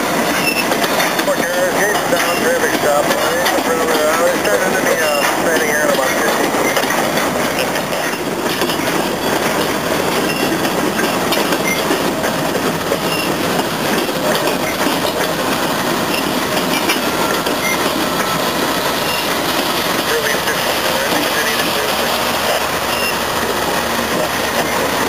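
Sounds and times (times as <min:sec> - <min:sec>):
diesel locomotives passing: 0:00.0 - 0:25.0
steel train wheels on rails: 0:00.0 - 0:25.0.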